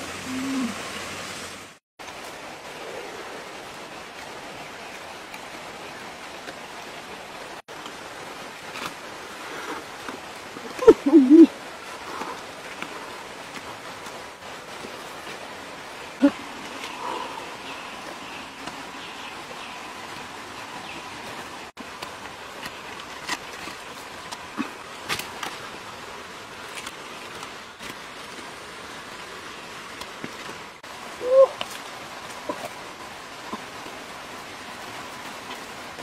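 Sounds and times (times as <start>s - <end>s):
steady outdoor hiss: 0.0s - 36.0s.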